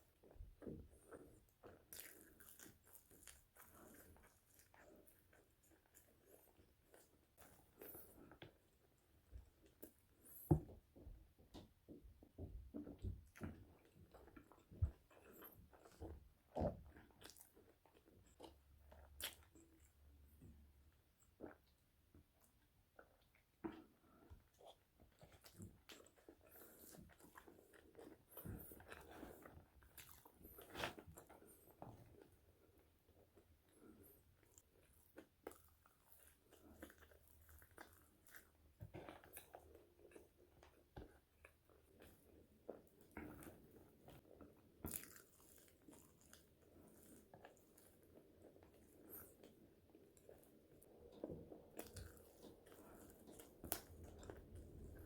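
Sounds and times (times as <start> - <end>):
person chewing fries: 0.1 - 10.5, 13.2 - 20.0, 23.0 - 55.0.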